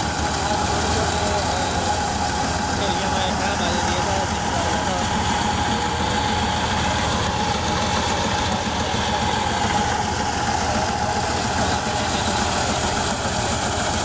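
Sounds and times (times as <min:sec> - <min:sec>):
high hum of thresher: 0:00.0 - 0:14.0
tractor diesel engine running: 0:00.0 - 0:14.0.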